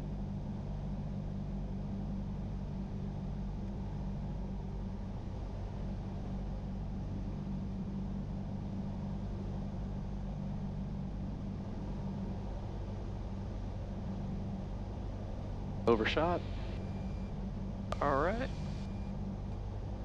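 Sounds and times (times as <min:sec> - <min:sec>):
airplane engine and propeller: 0:00.0 - 0:20.0.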